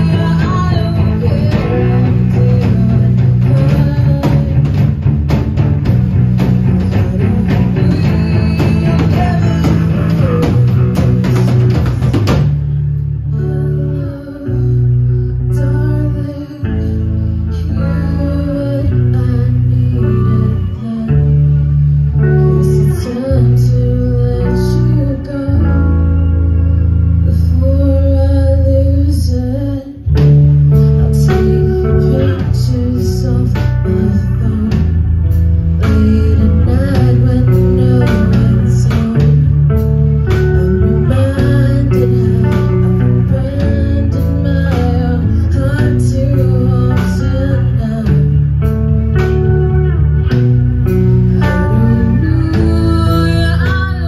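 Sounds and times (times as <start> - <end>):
person singing: 0.0 - 5.0, 6.8 - 12.4, 13.2 - 50.4, 51.2 - 54.0
bass guitar: 0.0 - 54.0
drums: 0.0 - 54.0
electric guitar: 0.0 - 54.0.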